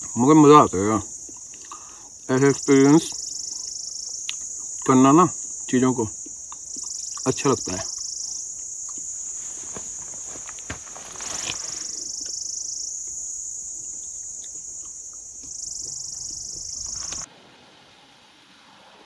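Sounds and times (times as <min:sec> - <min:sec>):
insects buzzing shrilly: 0:00.0 - 0:17.3.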